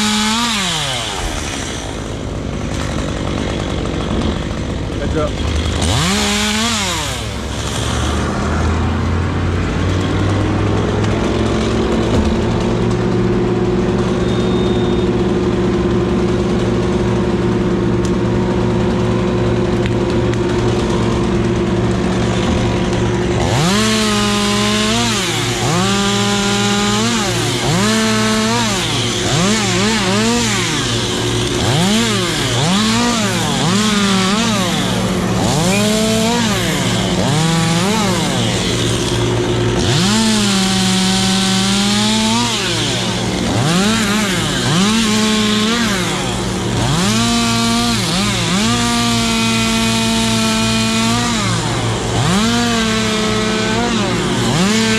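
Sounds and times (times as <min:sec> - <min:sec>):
chainsaw revving cutting wood: 0:00.0 - 0:54.9.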